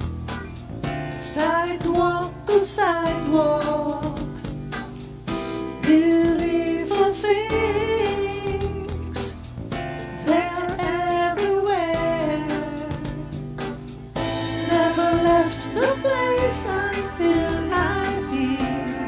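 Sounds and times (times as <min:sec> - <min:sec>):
song with sung vocals and beat: 0:00.0 - 0:19.0.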